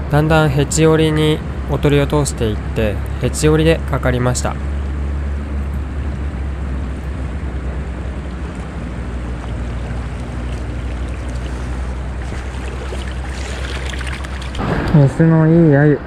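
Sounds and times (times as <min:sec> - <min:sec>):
river current rushing: 0:00.0 - 0:15.2.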